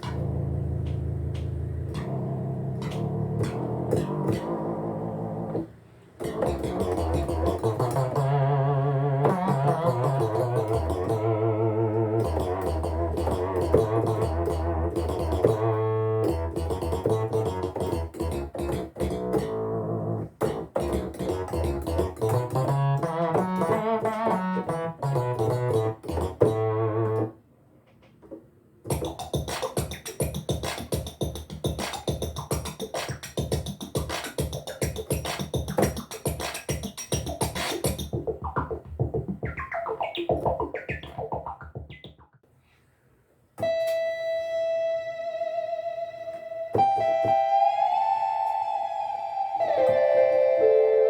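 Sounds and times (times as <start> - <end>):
synthesizer keyboard sounds: 0.0 - 27.4, 28.9 - 42.4, 43.6 - 51.0.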